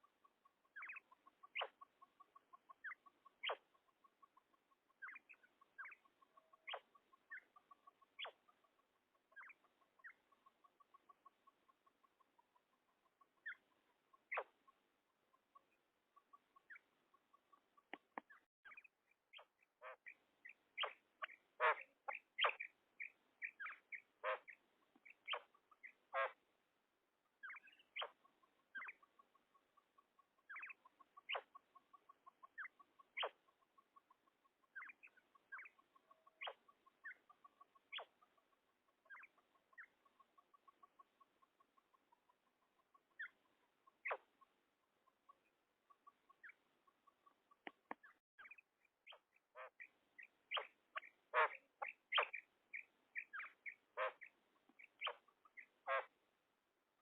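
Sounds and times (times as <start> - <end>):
quail calling: 0.0 - 14.7, 15.3 - 26.4, 27.4 - 44.4, 45.9 - 56.1.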